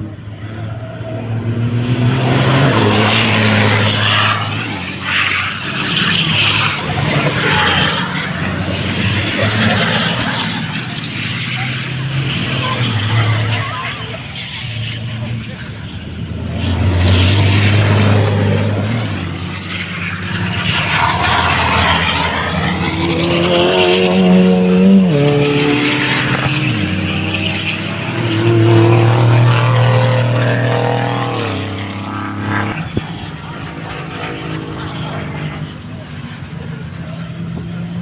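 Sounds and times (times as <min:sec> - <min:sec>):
race truck engines running: 0:00.0 - 0:38.0.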